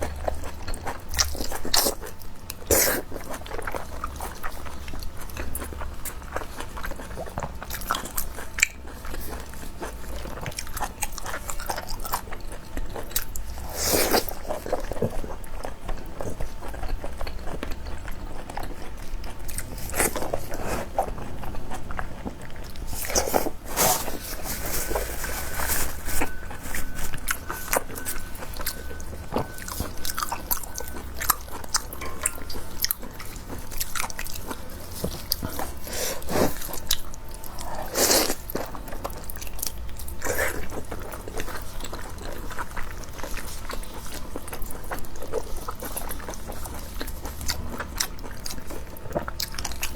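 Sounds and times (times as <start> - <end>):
person chewing and biting food: 0.0 - 49.9.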